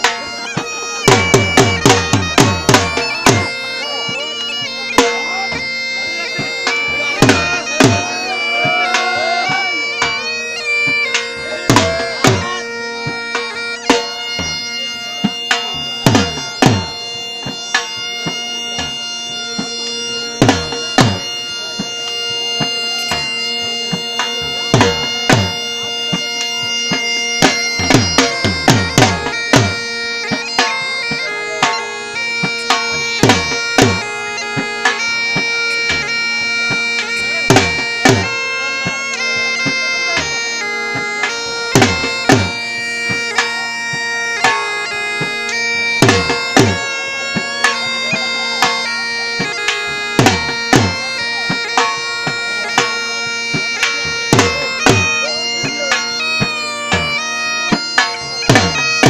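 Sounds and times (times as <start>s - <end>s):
drum strokes: 0.0s - 59.0s
reed wind instrument melody: 0.0s - 59.0s.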